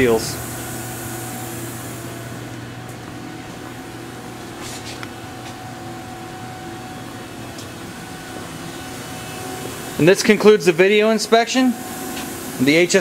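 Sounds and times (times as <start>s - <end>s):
machine hum at idle: 0.0s - 13.0s.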